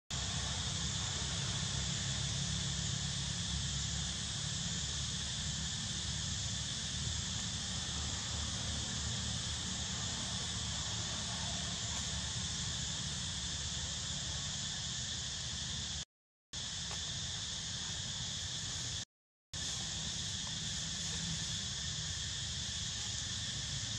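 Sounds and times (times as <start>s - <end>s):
high-pitched insect chorus: 0.1s - 16.0s, 16.6s - 19.0s, 19.6s - 23.9s.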